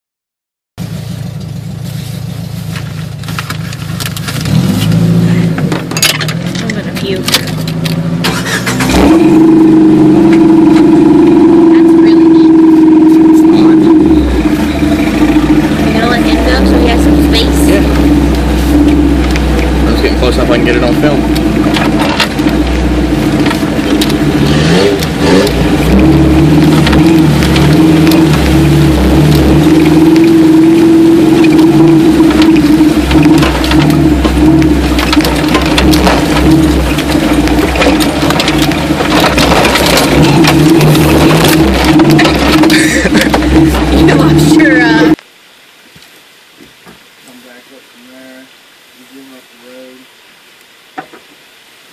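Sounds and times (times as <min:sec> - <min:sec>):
engine running and revving: 0:00.9 - 0:45.2.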